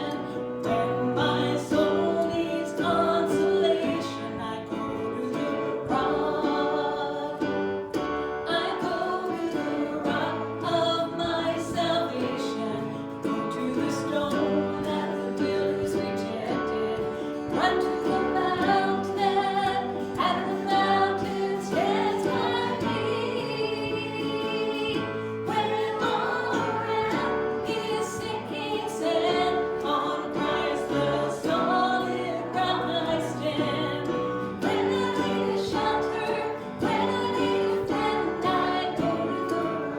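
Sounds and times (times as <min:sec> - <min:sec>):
voices singing together: 0:00.0 - 0:39.9.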